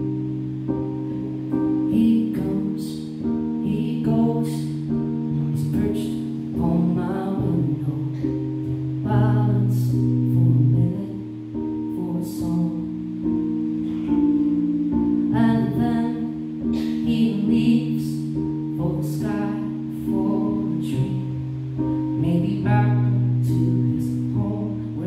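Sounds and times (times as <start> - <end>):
electric keyboard chords: 0.0 - 25.0
person singing: 0.8 - 25.0.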